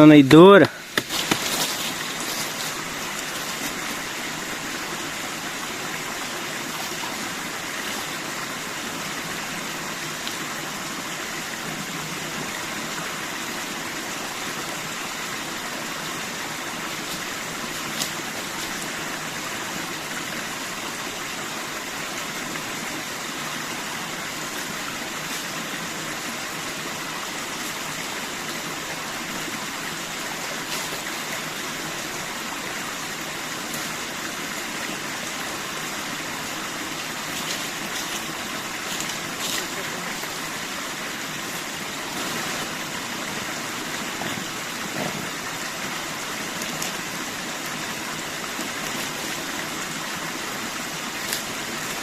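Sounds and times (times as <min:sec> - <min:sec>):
stream water flowing: 0:00.0 - 0:52.0.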